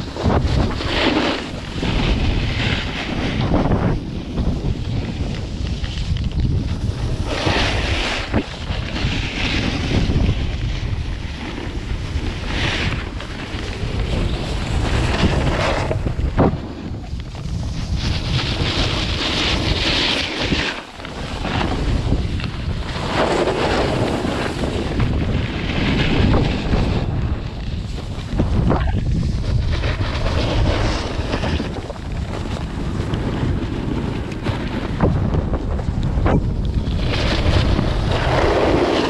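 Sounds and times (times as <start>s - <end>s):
skis scraping over snow: 0.0s - 39.0s
wind buffeting microphone: 0.0s - 39.0s.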